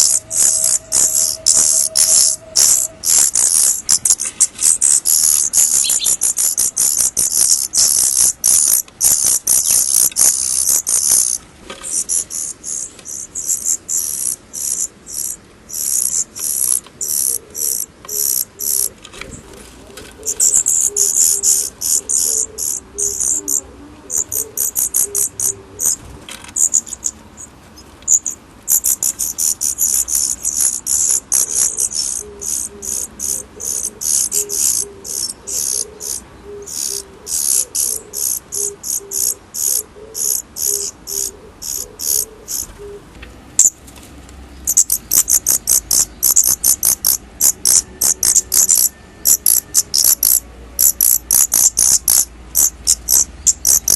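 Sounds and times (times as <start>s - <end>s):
insects chirping: 0.0s - 18.9s, 20.2s - 26.0s, 26.6s - 42.6s, 44.6s - 53.9s.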